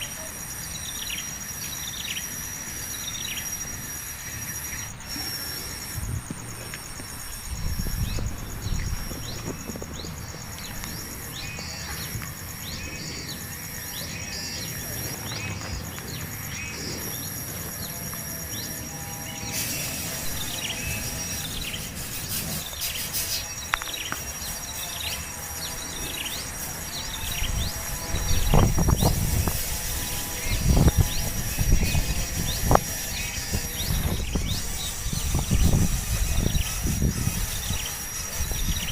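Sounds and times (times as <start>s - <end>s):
high-pitched insect drone: 0.0s - 38.9s
hiss: 0.0s - 38.9s
small birds chirping: 0.0s - 38.9s.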